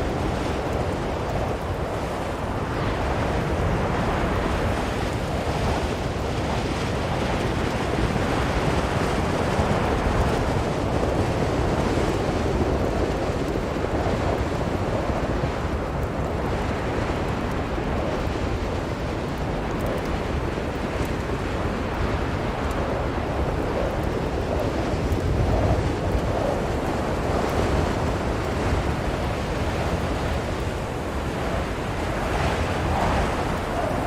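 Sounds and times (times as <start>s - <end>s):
strong wind blowing: 0.0s - 34.0s.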